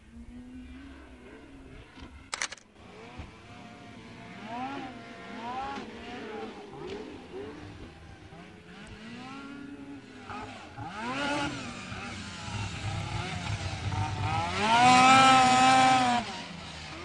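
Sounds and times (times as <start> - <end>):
snowmobile engine revving: 2.8 - 17.0.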